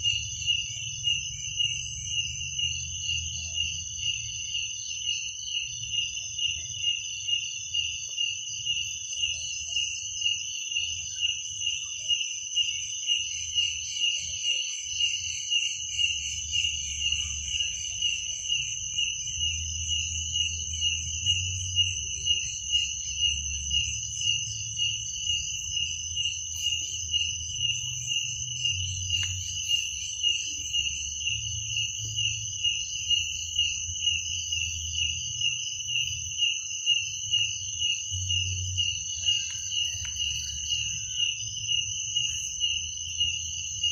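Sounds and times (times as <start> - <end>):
crickets chirping: 0.0 - 43.9
insect trill: 0.0 - 43.9.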